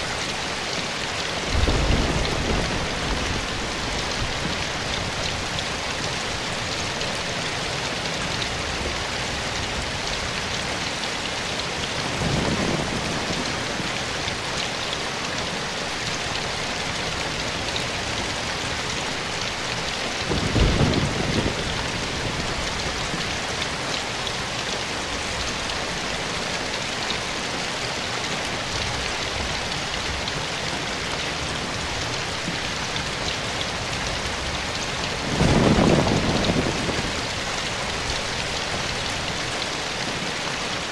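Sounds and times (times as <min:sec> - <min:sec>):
rain on leaves: 0:00.0 - 0:40.9.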